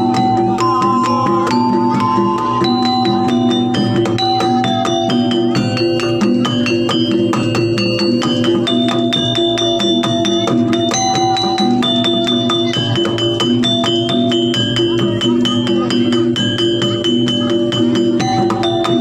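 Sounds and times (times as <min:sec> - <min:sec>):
drum strokes: 0:00.0 - 0:19.0
metallophones and gongs ringing: 0:00.0 - 0:19.0.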